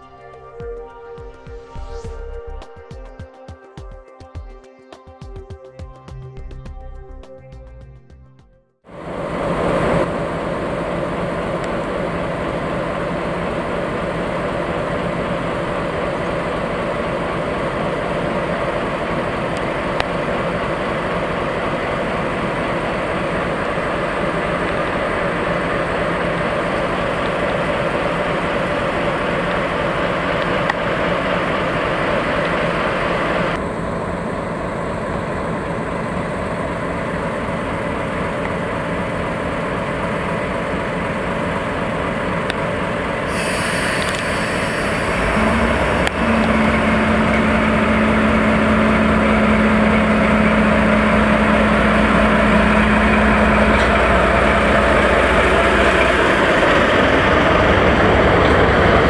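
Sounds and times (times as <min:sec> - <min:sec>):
diesel locomotive engine running: 0:08.9 - 0:59.0.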